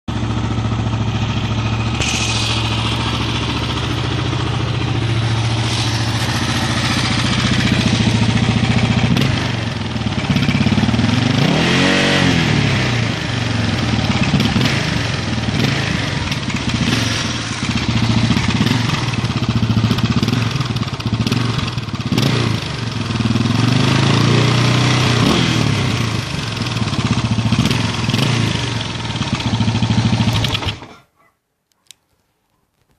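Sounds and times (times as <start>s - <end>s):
motorcycle engine idling and revving: 0.0s - 30.9s.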